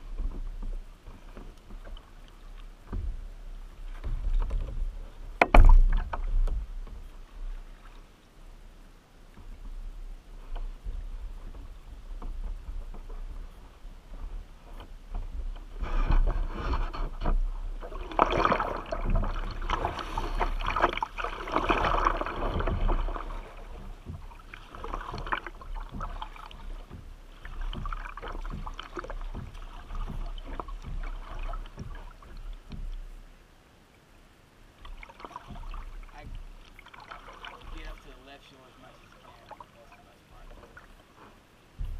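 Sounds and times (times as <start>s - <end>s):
water splashing around a kayak: 0.0s - 41.9s.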